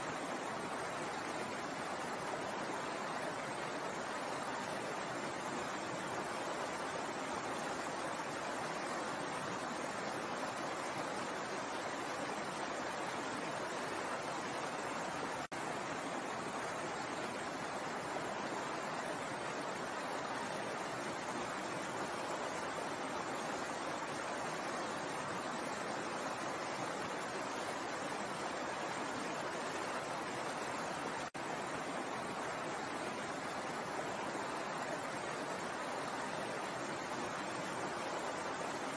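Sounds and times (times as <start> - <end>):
stream water running over rocks: 0.0 - 38.9.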